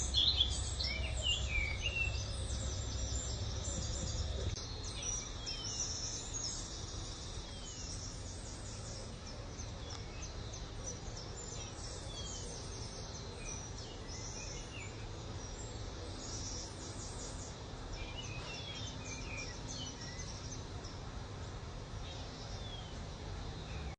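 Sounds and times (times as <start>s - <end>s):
low steady rumble: 0.0s - 23.9s.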